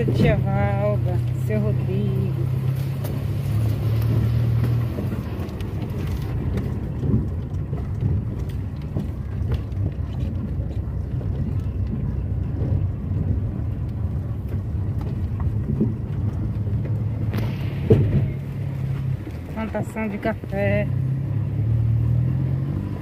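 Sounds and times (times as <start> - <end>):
car engine and road rumble: 0.0 - 23.0
knocks and rattles from bumps: 2.6 - 21.2.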